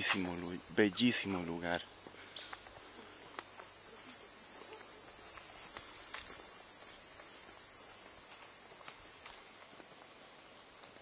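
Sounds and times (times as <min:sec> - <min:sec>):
high-pitched insect drone: 0:00.3 - 0:09.2.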